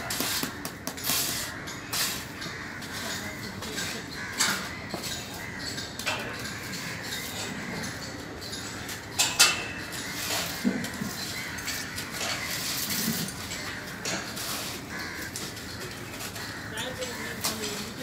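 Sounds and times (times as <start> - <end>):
shovels scraping wet concrete: 0.0 - 5.4, 8.7 - 18.0.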